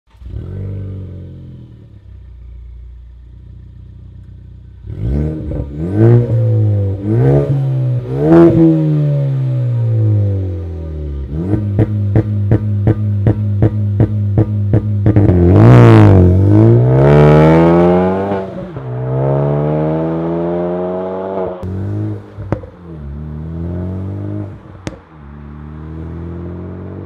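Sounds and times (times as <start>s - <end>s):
car exhaust revving with pops: 3.2s - 27.0s.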